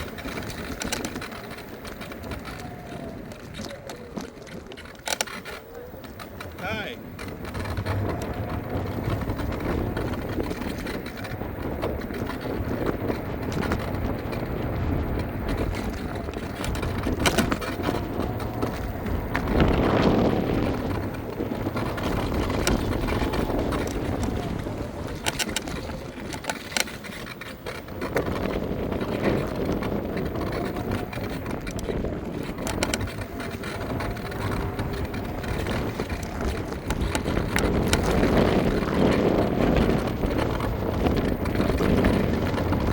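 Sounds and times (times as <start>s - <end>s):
sharp rattling clicks: 0.0s - 42.9s
tyres rumbling on ground: 0.0s - 42.9s
wind on microphone: 0.0s - 42.9s.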